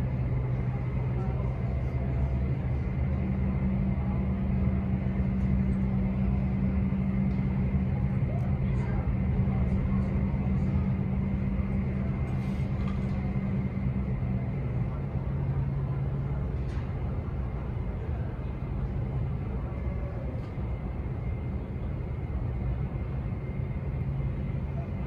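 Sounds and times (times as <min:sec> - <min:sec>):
tug engine running under load: 0:00.0 - 0:25.0.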